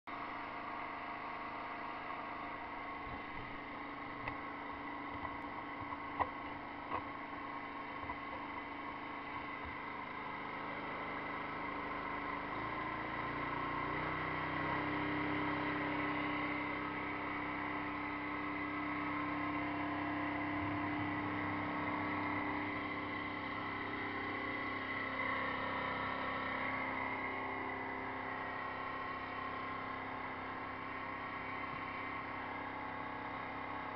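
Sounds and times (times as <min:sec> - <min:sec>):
pressure washer running: 0:00.1 - 0:33.9.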